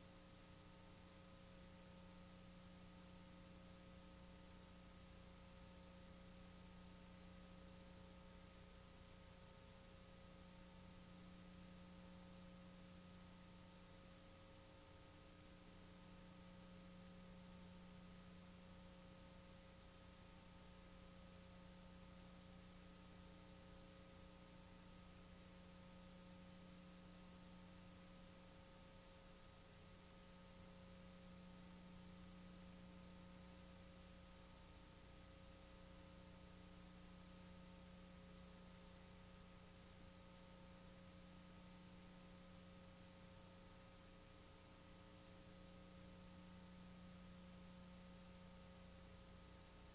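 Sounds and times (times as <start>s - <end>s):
faint electrical hum with hiss: 0.0s - 49.9s.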